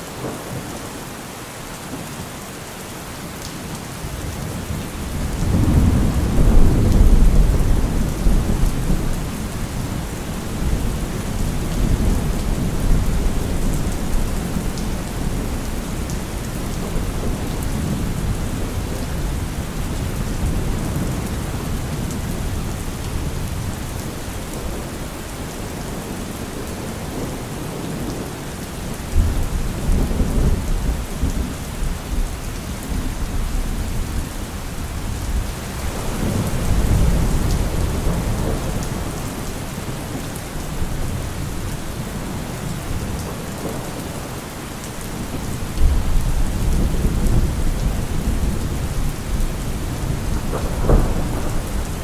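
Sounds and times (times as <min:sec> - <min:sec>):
heavy rain hiss: 0:00.0 - 0:52.0
thunder rumbles: 0:04.2 - 0:44.4, 0:45.0 - 0:52.0.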